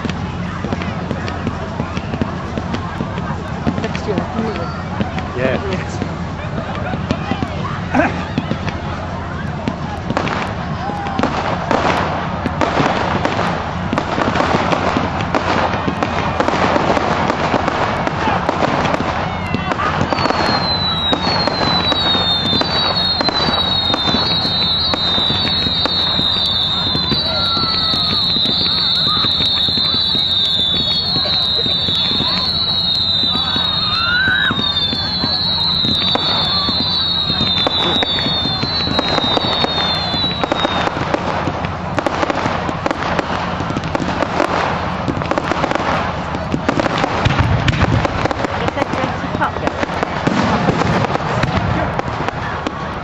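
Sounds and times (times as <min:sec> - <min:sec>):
fireworks bangs crackling: 0:00.0 - 0:53.0
whistling fireworks: 0:00.0 - 0:53.0.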